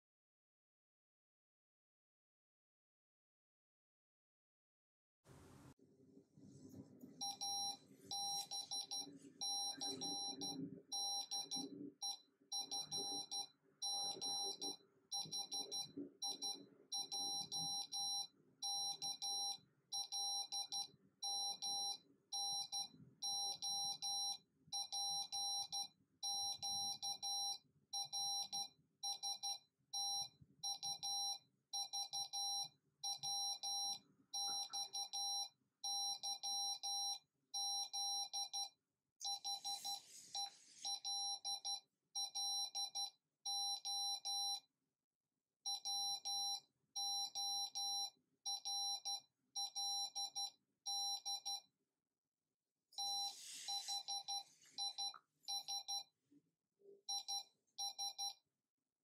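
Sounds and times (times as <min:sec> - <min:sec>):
morse code beeps: 0:07.2 - 0:44.6, 0:45.7 - 0:51.7, 0:53.0 - 0:56.1, 0:57.1 - 0:58.4.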